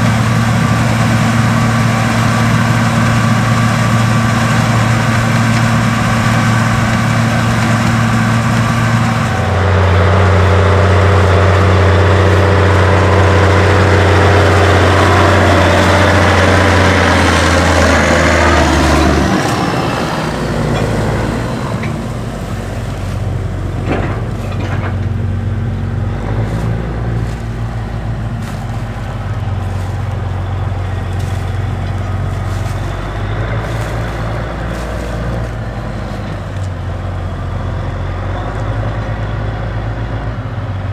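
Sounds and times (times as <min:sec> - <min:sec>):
diesel farm machinery running: 0:00.0 - 0:40.9.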